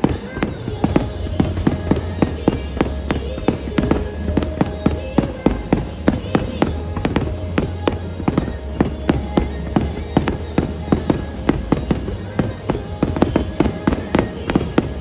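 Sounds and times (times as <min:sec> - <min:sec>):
fireworks bursting: 0:00.0 - 0:15.0
music playing: 0:00.0 - 0:15.0.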